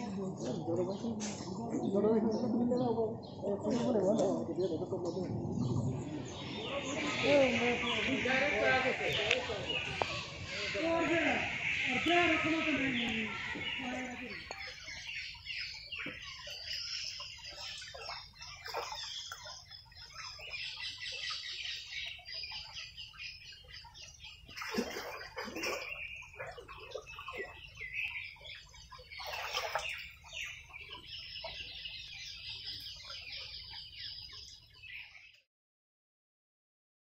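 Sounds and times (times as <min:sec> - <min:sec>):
loud low bird calls: 0:00.0 - 0:35.1
birds chirping and calling: 0:00.0 - 0:35.4.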